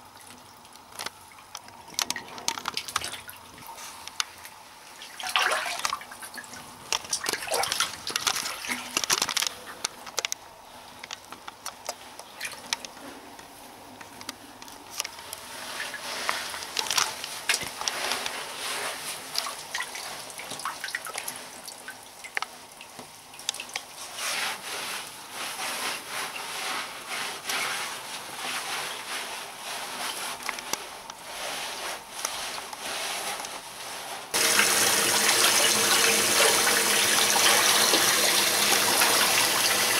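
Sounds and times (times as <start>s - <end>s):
bathwater sloshing and splashing: 0.2s - 9.8s, 15.2s - 39.9s.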